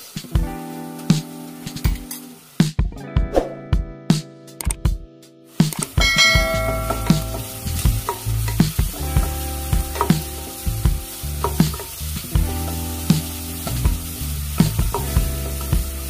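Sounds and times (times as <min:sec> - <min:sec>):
onions sizzling in oil: 0:00.0 - 0:02.7, 0:05.5 - 0:16.0.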